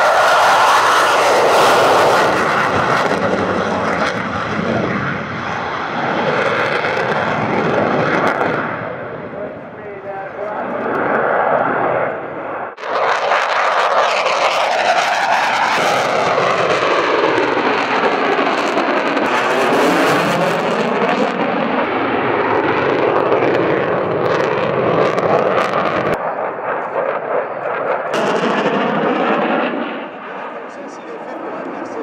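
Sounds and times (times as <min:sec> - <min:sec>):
jet engines on afterburner: 0:00.0 - 0:32.0.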